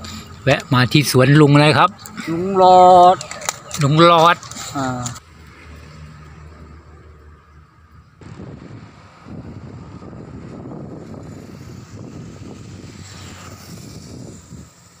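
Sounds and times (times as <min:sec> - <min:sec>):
low rumble of roadside noise: 0:00.0 - 0:15.0.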